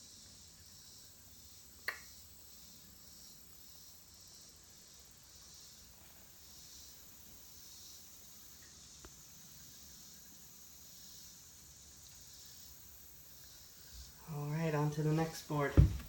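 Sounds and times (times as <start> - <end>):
faint high hiss: 0.0 - 16.0.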